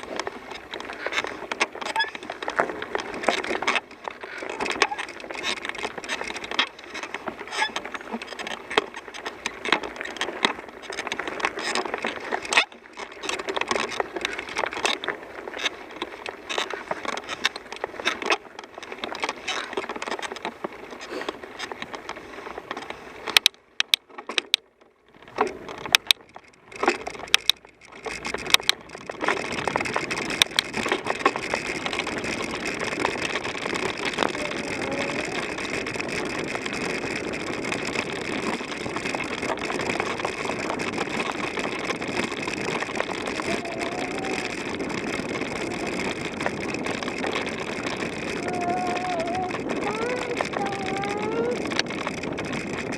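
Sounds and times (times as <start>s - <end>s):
bicycle tyres crunching on trail: 0.0s - 52.9s.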